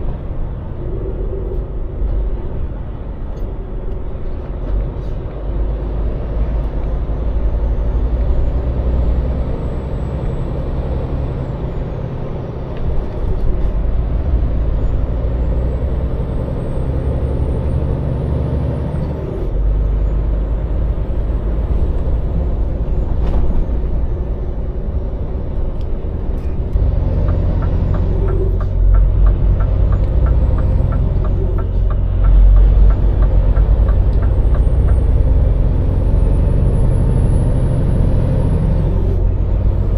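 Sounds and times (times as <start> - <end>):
lorry diesel engine droning: 0.0 - 39.9.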